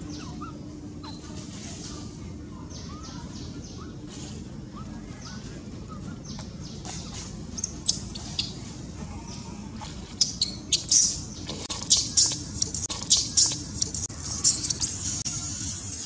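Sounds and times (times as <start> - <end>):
faint bird chirps: 0.0 - 9.6, 10.2 - 15.2.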